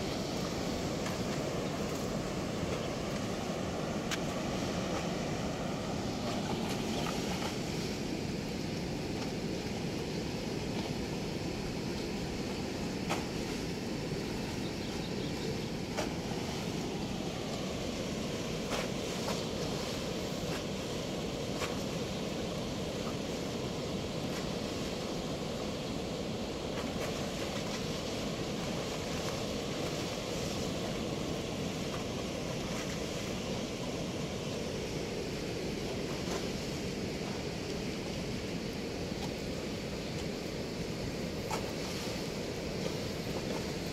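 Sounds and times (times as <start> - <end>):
water rushing through sluice gate: 0.0 - 43.9.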